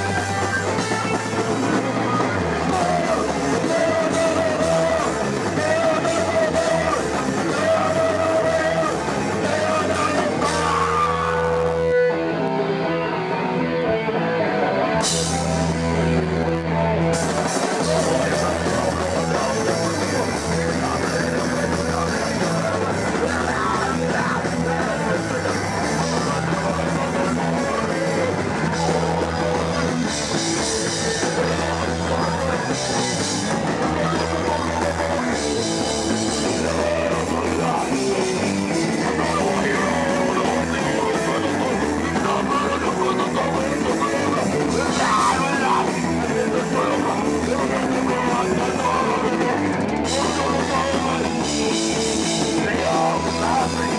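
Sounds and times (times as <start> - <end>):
drum kit with cymbals: 0.0 - 11.6, 15.0 - 16.2, 17.0 - 53.9
bass guitar: 0.0 - 53.9
electric guitar: 0.0 - 53.9.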